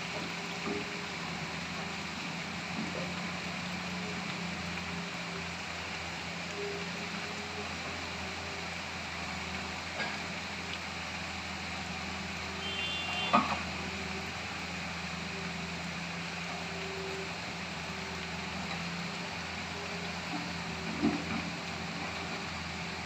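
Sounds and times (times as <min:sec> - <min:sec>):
excavator diesel engines running: 0:00.0 - 0:23.0.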